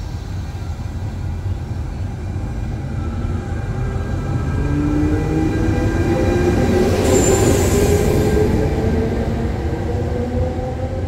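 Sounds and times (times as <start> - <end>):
rising train whine: 0.0 - 11.0
train rumbling through station: 0.0 - 11.0.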